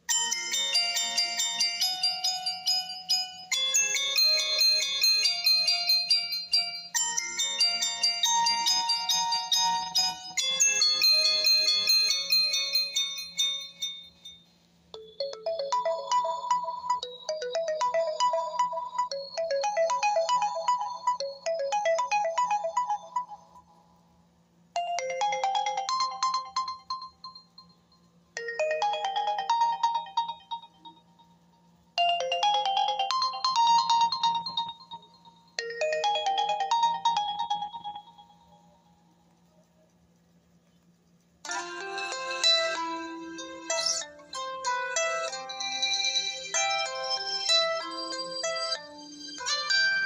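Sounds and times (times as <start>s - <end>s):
smartphone ringtone melody: 0.1s - 24.0s, 24.8s - 39.1s, 41.5s - 50.0s
faint low hum: 6.9s - 50.0s.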